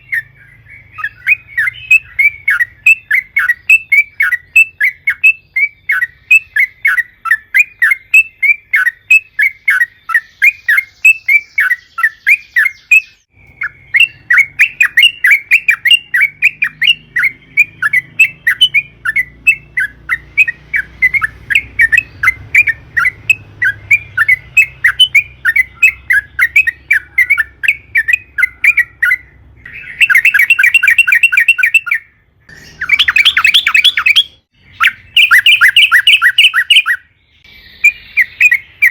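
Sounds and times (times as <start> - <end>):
bird chattering and rattling trills: 0.9 - 38.9.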